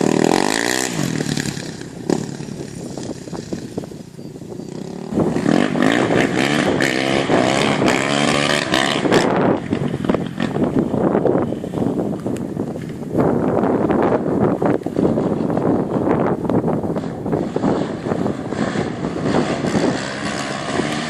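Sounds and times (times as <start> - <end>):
atv engine idling and revving: 0.0 - 21.0.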